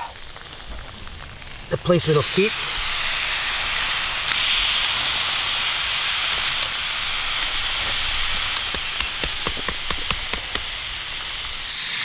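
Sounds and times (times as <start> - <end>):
crackling pops: 0.0 - 11.7
meat sizzling on hot stone: 0.0 - 12.0.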